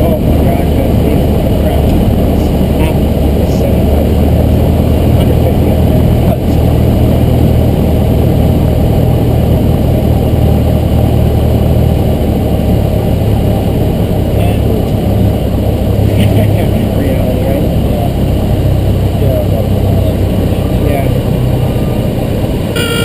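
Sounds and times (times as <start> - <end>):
airplane engine and propeller droning: 0.0 - 23.0.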